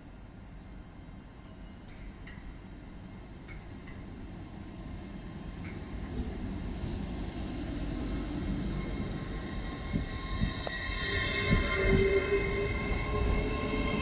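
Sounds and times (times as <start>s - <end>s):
train rumbling past: 0.4s - 14.0s.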